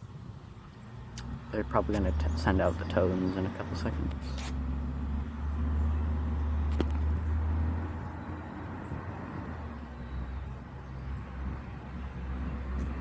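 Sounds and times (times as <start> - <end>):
car rumble: 0.2 - 13.0.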